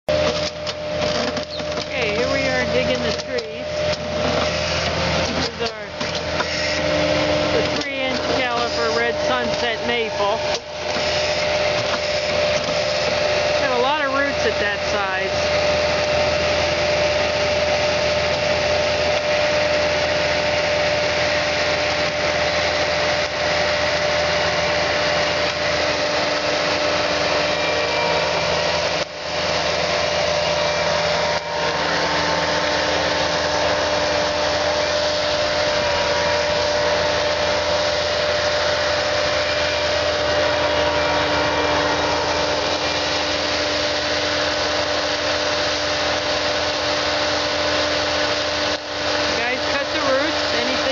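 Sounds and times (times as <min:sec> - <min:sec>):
diesel engine running under load: 0:00.1 - 0:50.9
steady hydraulic whine: 0:00.1 - 0:50.9.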